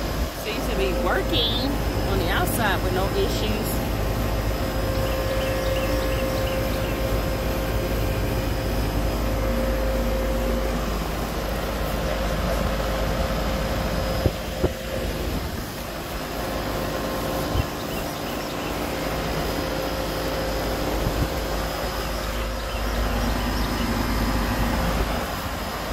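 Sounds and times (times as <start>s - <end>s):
air conditioner unit humming: 0.0s - 25.9s.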